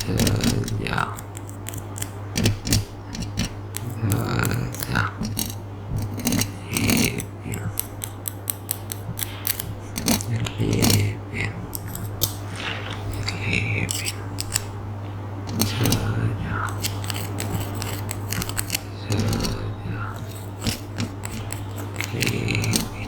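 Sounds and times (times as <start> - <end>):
sharp clicks and snipping: 0.0 - 14.8, 15.5 - 23.0
scratchy ticks: 0.0 - 23.0
steady low hum: 0.0 - 23.0.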